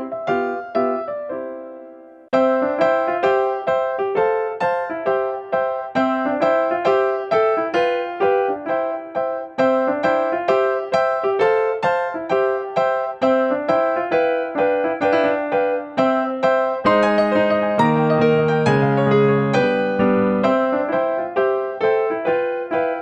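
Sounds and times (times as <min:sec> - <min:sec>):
piano playing: 0:00.0 - 0:23.0.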